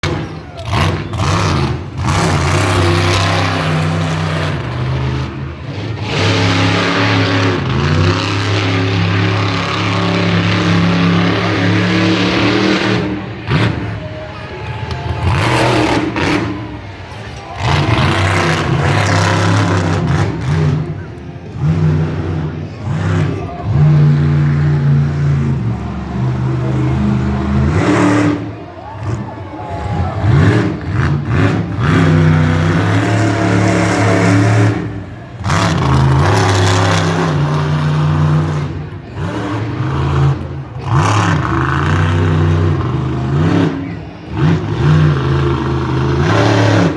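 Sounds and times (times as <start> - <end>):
monster truck engine revving: 0.0 - 46.9.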